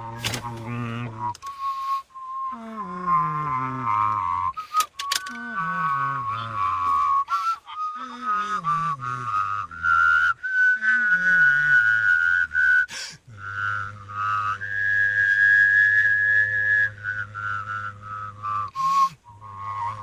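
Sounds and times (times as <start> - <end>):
low voice drone: 0.0 - 1.6, 2.2 - 4.6, 5.2 - 20.0
person whistling a melody: 0.0 - 20.0.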